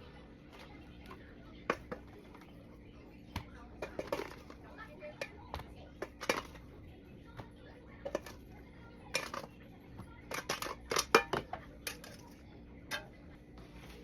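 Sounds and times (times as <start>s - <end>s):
utensils and dishes clattering: 0.0s - 2.7s, 3.3s - 14.0s.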